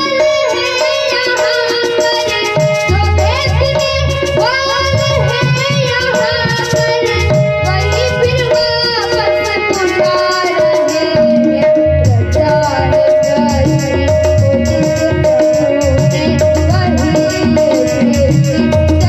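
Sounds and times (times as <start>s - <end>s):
harmonium melody: 0.0s - 19.0s
jingling percussion: 0.0s - 19.0s.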